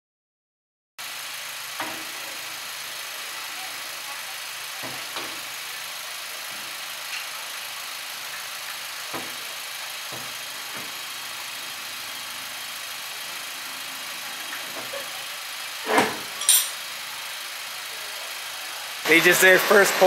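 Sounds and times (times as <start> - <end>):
car engine idling: 1.0 - 20.0.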